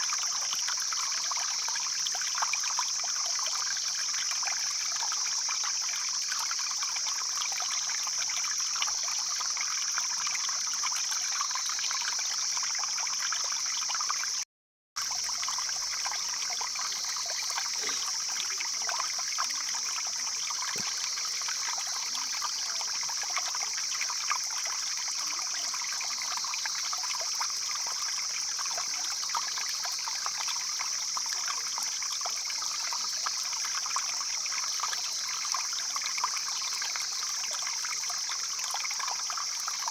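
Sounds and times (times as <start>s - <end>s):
stream water rushing and trickling: 0.0s - 14.4s, 15.0s - 39.9s.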